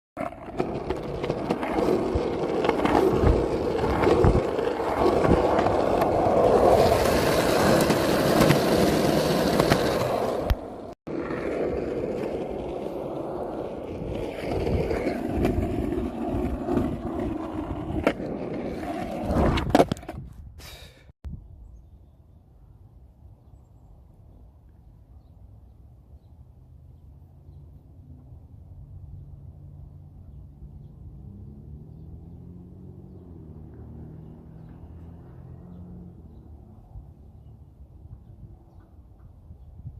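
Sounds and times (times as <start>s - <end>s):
skateboard wheels rolling on pavement: 0.2s - 20.9s, 27.6s - 39.9s.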